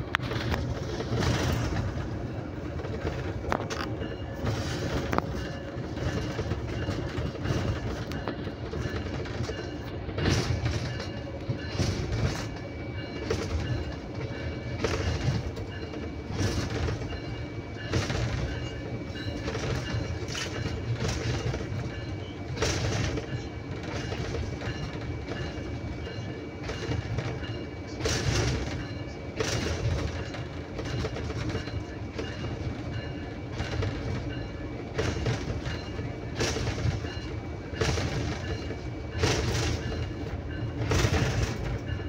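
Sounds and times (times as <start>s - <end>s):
wheels clacking over rail joints: 0.0s - 42.0s
wheels rumbling on rail: 0.0s - 42.0s.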